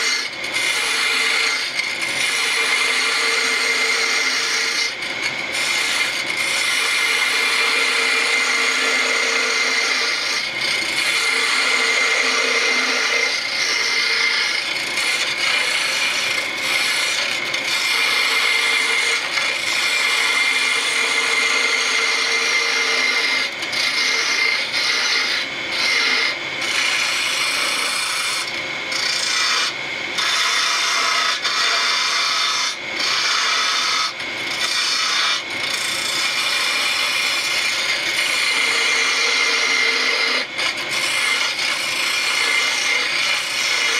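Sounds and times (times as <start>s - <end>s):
lathe tool scraping wood: 0.0s - 43.9s.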